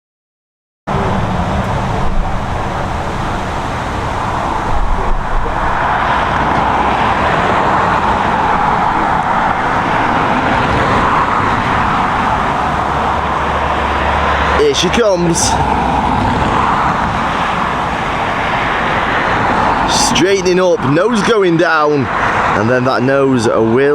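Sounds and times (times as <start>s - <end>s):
gusty wind on microphone: 0.9s - 22.6s.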